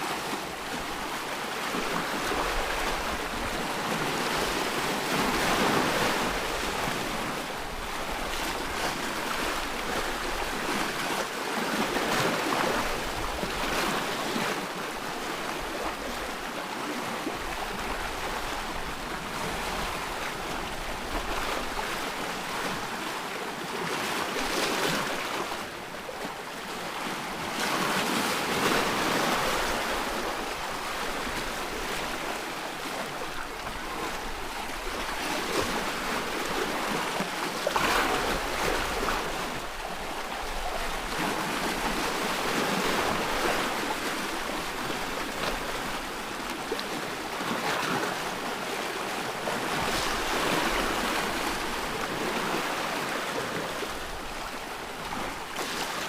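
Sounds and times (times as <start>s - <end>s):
ocean waves rushing: 0.0s - 56.0s.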